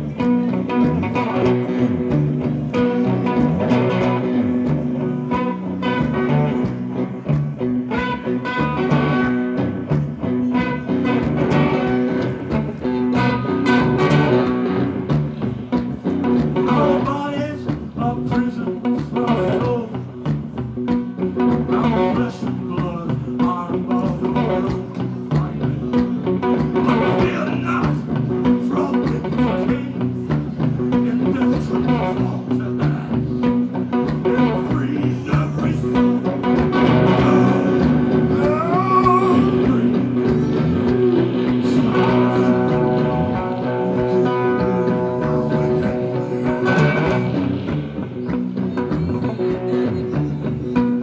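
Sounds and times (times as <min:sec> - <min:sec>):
electric slide guitar blues: 0:00.0 - 0:51.0
strummed guitar rhythm: 0:00.0 - 0:51.0.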